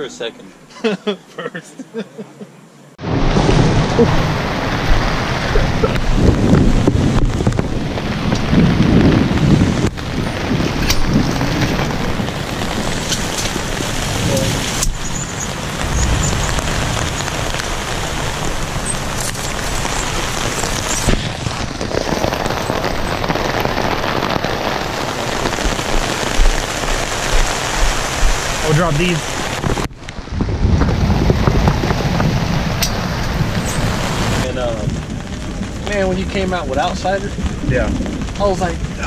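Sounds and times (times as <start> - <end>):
heavy rain pouring: 3.0 - 39.0.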